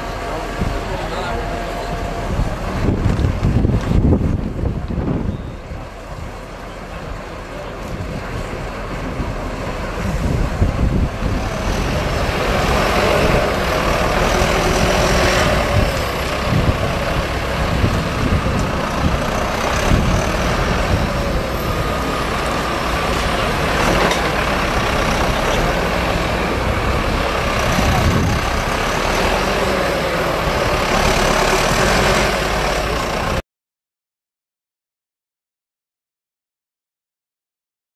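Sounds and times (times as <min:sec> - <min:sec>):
diesel tractor engines working: 0:00.0 - 0:33.4.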